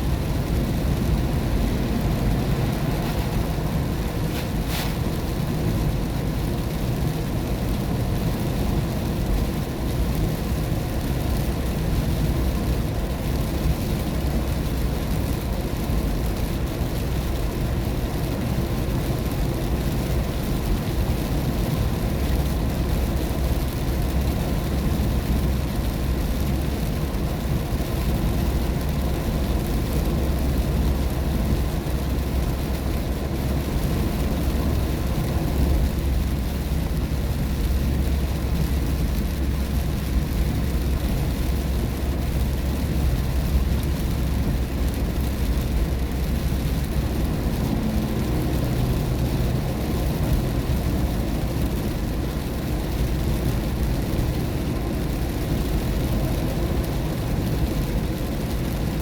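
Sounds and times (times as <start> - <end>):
car driving on wet road: 0.0 - 59.0
rain noise: 0.0 - 59.0.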